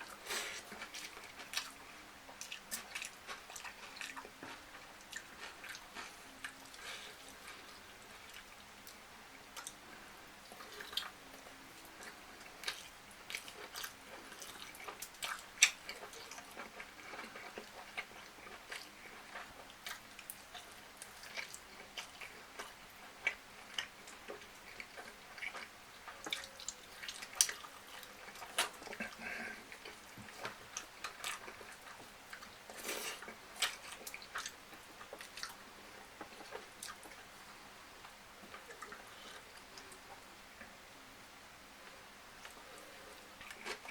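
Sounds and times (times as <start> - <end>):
person chewing: 0.0 - 40.2, 42.4 - 43.9.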